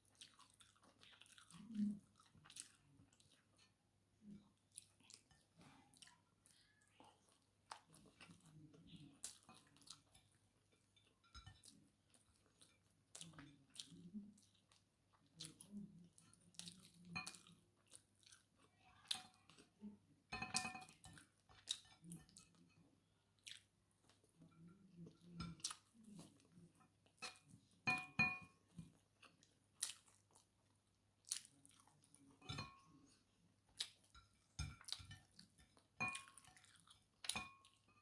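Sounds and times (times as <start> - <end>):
close-up chewing: 0.0 - 38.0.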